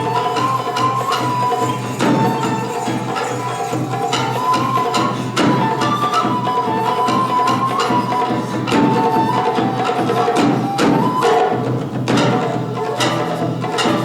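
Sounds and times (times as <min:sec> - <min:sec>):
drums played rhythmically: 0:00.0 - 0:14.0.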